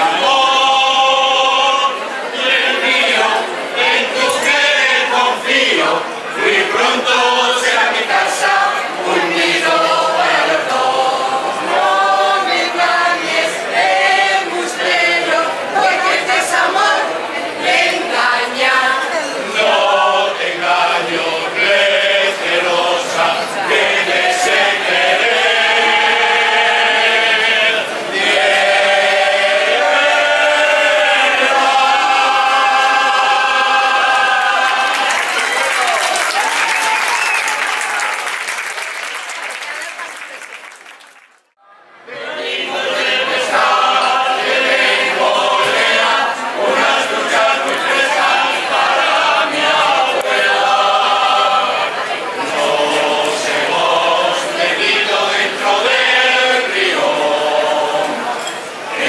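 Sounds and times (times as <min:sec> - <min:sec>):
choir singing: 0:00.0 - 0:36.5, 0:41.6 - 0:59.0.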